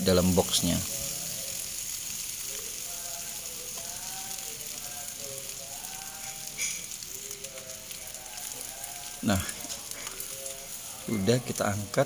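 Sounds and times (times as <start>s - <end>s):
chicken sizzling on a grill pan: 0.0s - 12.0s.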